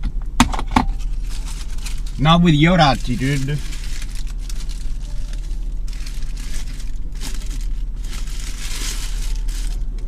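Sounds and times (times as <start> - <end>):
low steady hum: 0.0 - 10.0
paper wrapper crinkling: 0.9 - 10.0.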